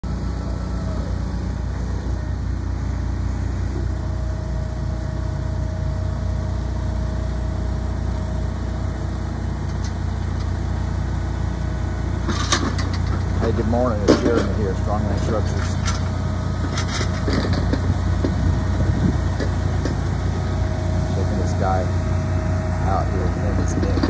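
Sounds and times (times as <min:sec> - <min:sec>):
diesel truck engine: 0:00.0 - 0:24.0
faint steady whine: 0:00.0 - 0:24.0
shed-moving machine engine: 0:00.0 - 0:24.0.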